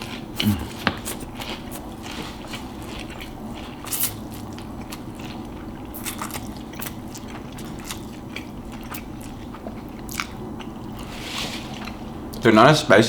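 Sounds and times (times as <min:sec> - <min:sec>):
chewing and slurping: 0:00.0 - 0:12.4.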